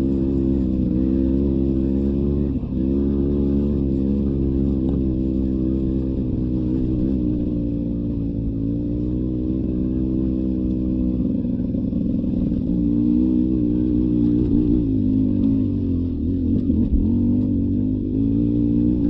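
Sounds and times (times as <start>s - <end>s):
two-stroke motorcycle engine running: 0.0s - 19.0s.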